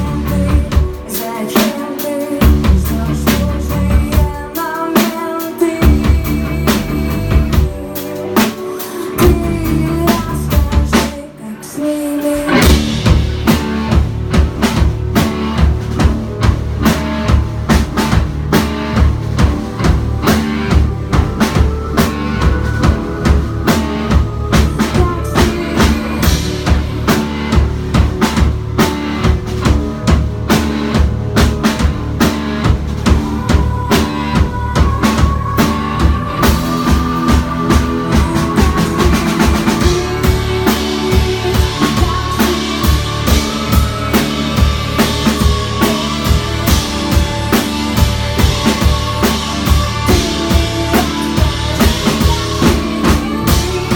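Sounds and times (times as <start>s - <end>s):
drum kit beat: 0.0s - 11.4s, 12.1s - 53.9s
bass: 0.0s - 53.9s
electric guitar: 0.0s - 53.9s.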